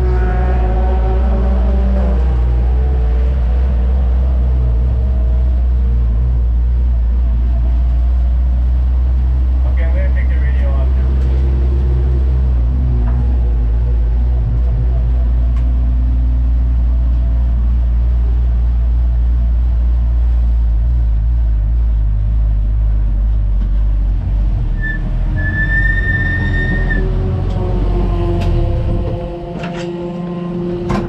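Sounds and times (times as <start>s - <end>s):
high steady whine: 0.0s - 31.0s
race car engine droning: 0.0s - 31.0s.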